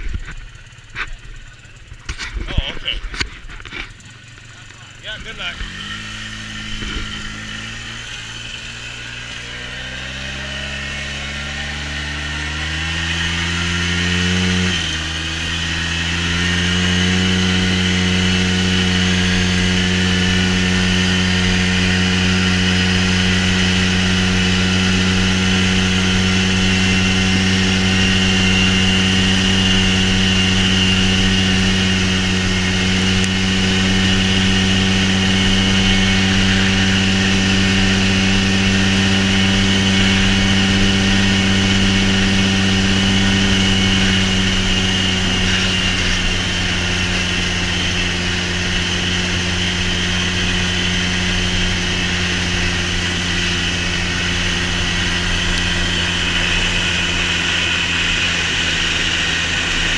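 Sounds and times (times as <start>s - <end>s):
vehicle engine running with whine: 0.0s - 59.9s.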